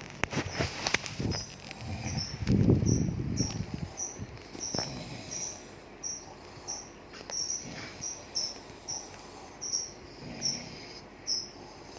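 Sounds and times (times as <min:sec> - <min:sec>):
insect chirping: 0:01.2 - 0:11.6.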